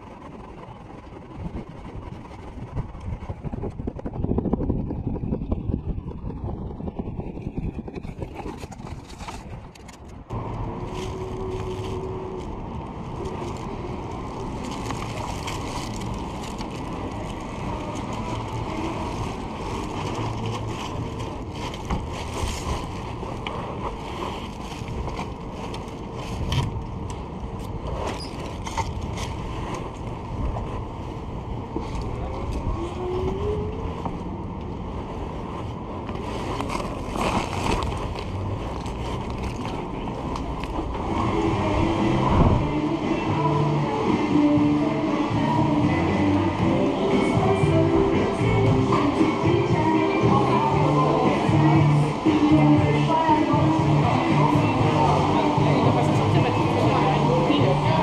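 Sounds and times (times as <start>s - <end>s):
street traffic: 0.0s - 58.0s
rushing noise: 10.2s - 58.0s.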